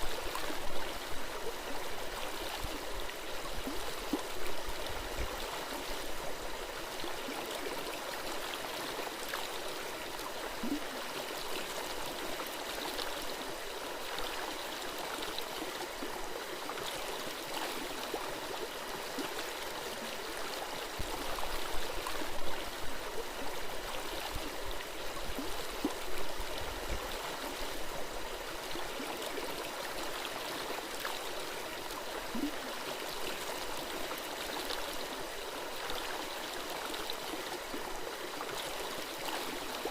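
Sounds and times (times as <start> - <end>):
stream gurgling over rocks: 0.0 - 39.9.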